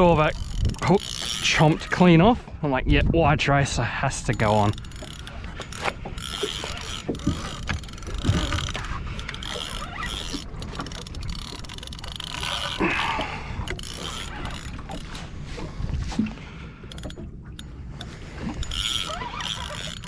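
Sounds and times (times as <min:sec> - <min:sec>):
fishing reel ratcheting whir: 0:00.0 - 0:02.1, 0:04.3 - 0:15.3, 0:16.9 - 0:20.0.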